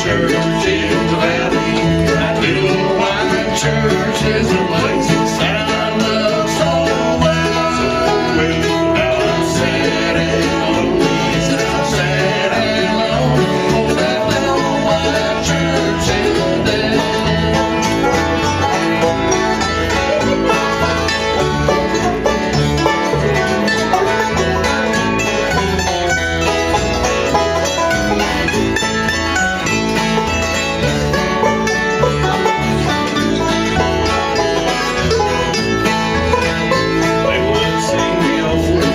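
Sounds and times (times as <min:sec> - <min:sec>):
bluegrass band playing live: 0:00.0 - 0:38.9
picked banjo: 0:00.0 - 0:38.9
strummed guitar: 0:00.0 - 0:38.9.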